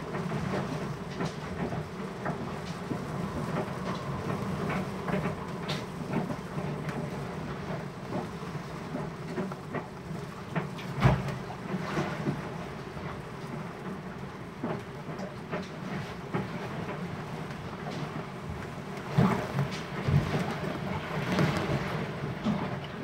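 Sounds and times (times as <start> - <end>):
storm wind rumble: 0.0 - 23.0.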